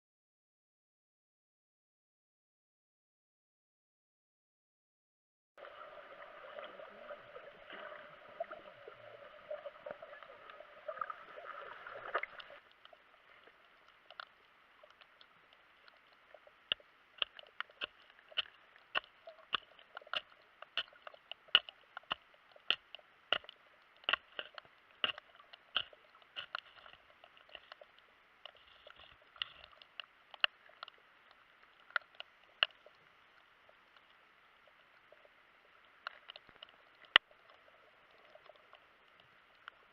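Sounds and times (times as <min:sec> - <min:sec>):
sharp underwater clicks: 0:07.7 - 0:39.9.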